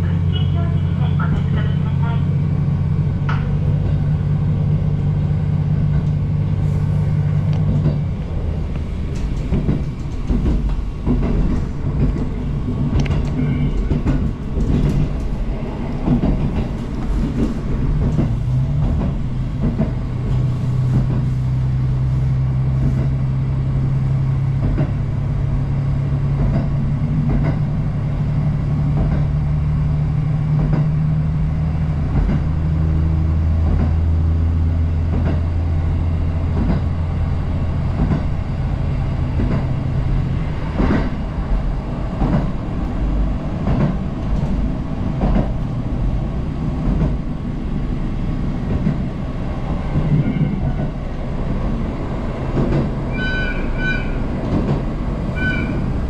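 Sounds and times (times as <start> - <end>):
diesel train engine drone: 0.0 - 56.0
train wheels clattering on rails: 3.2 - 56.0.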